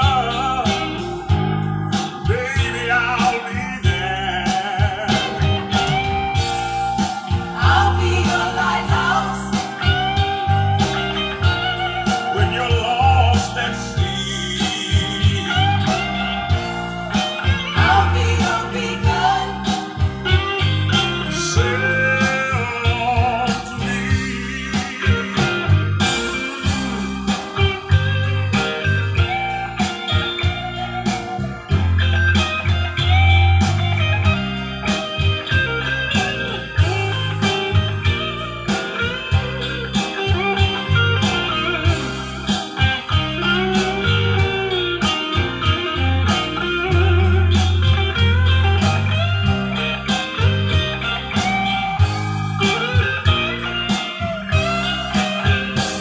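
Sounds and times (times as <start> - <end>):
blues music over loudspeakers: 0.0 - 56.0.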